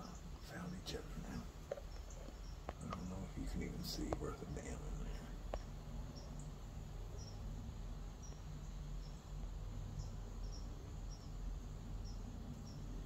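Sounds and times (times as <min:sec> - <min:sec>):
crickets chirping: 0:00.0 - 0:13.0
low steady rumble: 0:00.0 - 0:13.0.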